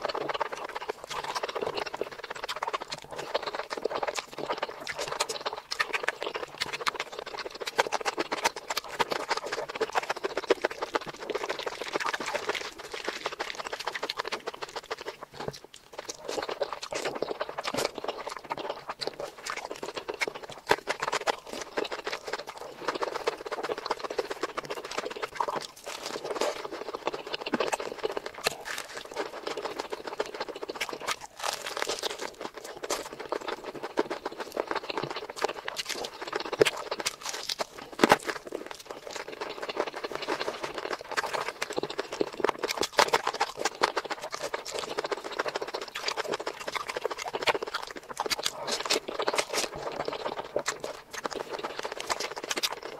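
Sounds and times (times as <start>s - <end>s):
wet chewing and mouth smacking: 0.0s - 52.9s.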